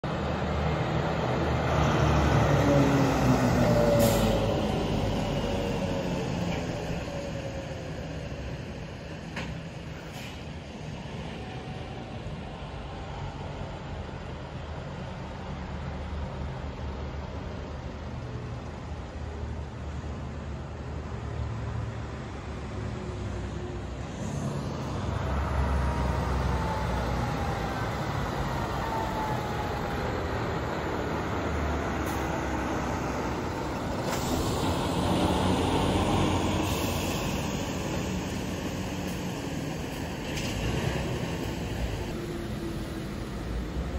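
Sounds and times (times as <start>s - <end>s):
truck engine and tyres rumbling: 0.0s - 43.9s.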